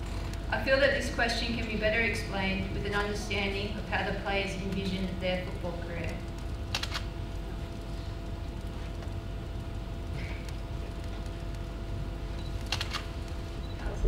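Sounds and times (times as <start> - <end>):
electrical hum with low rumble: 0.0 - 14.0.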